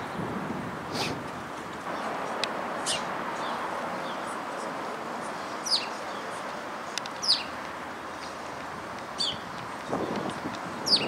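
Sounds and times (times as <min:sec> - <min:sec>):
songbird chirping: 0:01.7 - 0:11.0.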